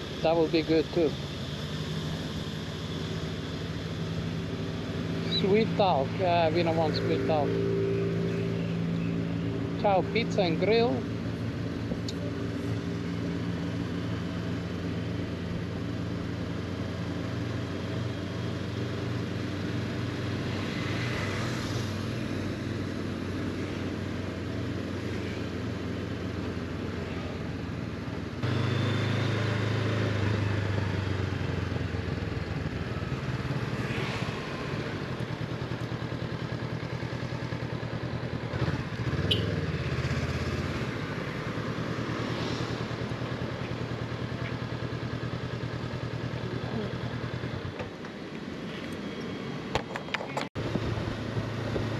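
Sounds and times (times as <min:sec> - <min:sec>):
motorcycle engine running: 0:00.0 - 0:48.3
road and wind noise: 0:00.0 - 0:51.9.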